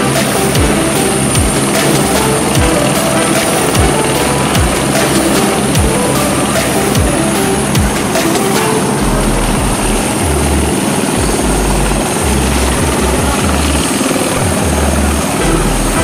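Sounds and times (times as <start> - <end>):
helicopter turbine and rotor noise: 0.0 - 14.4.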